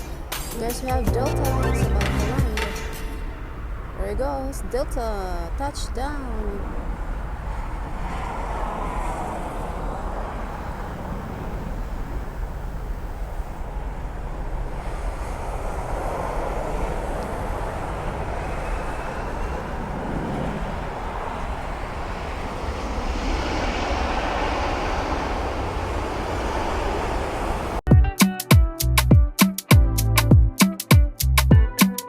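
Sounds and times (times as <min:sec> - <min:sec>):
jet engines rumbling and roaring: 0:00.0 - 0:27.8.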